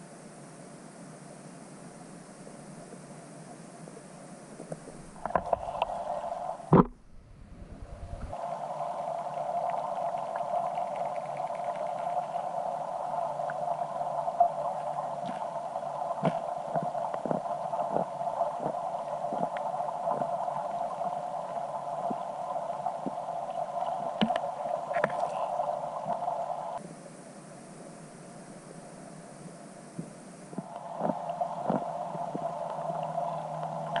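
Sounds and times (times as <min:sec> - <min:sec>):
muffled underwater noise: 0:02.2 - 0:34.0.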